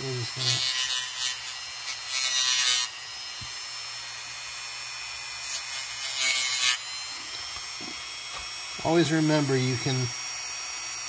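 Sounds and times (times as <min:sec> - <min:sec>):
rotary tool whine: 0:00.0 - 0:11.0.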